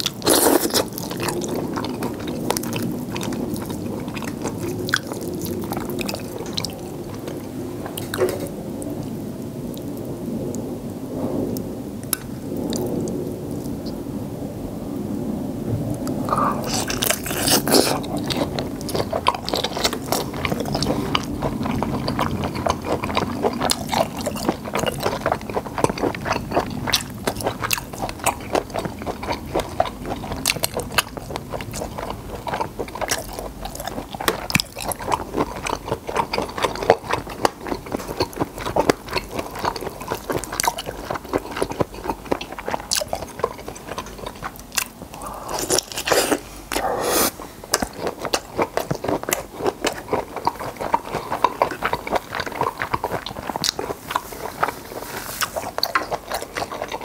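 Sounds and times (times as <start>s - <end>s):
person chewing wetly: 0.0s - 10.1s, 12.0s - 14.0s, 16.0s - 57.0s.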